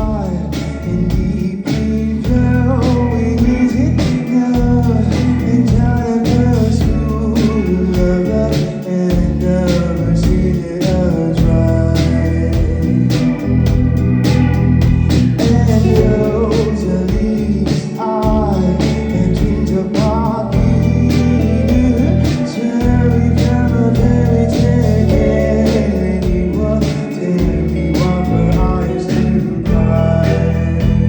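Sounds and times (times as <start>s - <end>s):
drums steady beat: 0.0s - 31.0s
live band playing: 0.0s - 31.0s.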